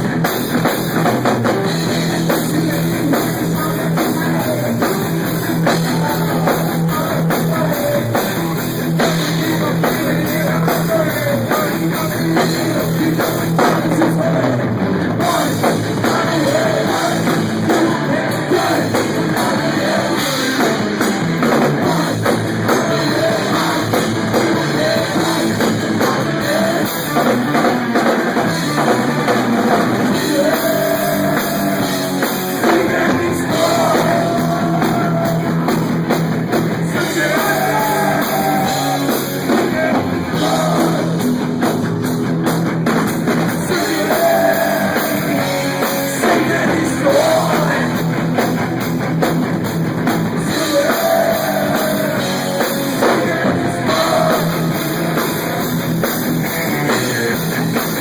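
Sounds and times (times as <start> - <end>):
distorted electric guitars riffing: 0.0 - 58.0
drum kit: 0.0 - 58.0.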